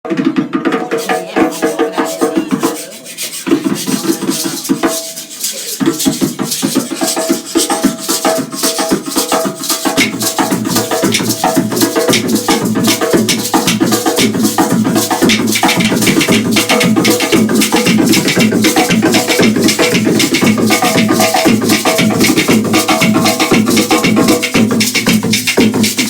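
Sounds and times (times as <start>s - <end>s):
fast drum rhythm: 0.1s - 26.0s.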